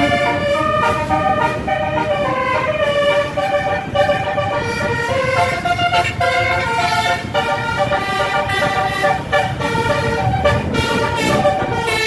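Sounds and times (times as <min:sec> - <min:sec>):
low rumbling noise: 0:00.0 - 0:12.0
musical bus horn tune: 0:00.0 - 0:12.0.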